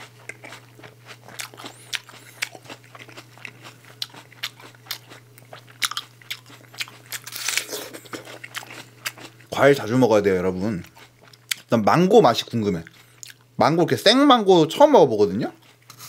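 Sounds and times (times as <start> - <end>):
apple crunching chewing: 0.0 - 11.8, 12.8 - 13.5, 15.5 - 16.0.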